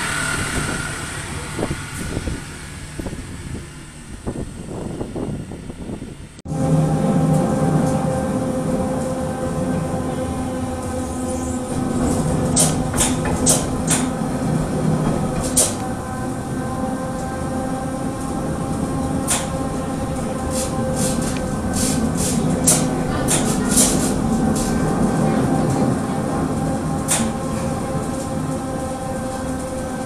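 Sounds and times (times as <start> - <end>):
electric train rumble: 0.0 - 30.0
motor whine: 0.0 - 30.0.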